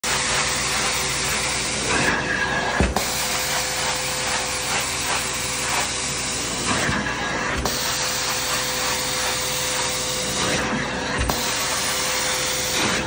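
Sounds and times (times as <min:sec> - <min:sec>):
suction hiss of carpet cleaner: 0:00.0 - 0:13.0.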